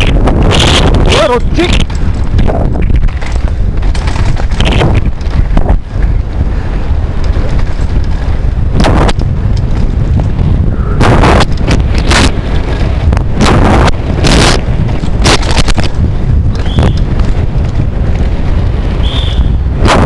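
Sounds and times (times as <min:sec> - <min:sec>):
bike rattling over dirt trail: 0:00.0 - 0:20.0
wind buffeting microphone: 0:00.0 - 0:20.0.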